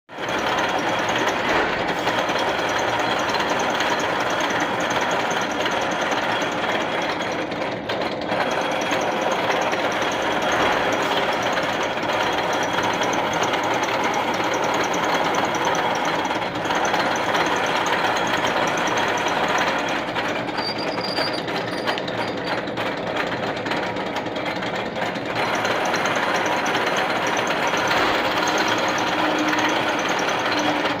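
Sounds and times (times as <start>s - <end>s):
high-speed machine rattling: 0.1s - 31.0s.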